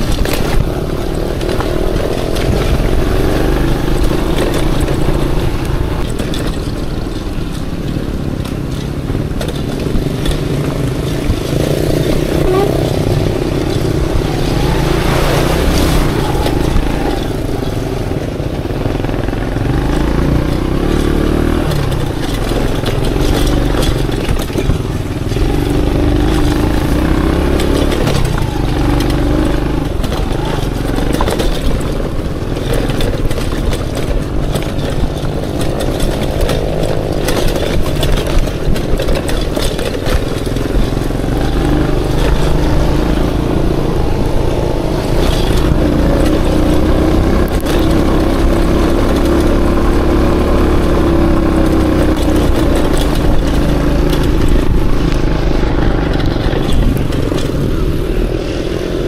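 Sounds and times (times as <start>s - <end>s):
knocks and clatter: 0.0s - 59.0s
motorcycle engine revving: 0.0s - 59.0s.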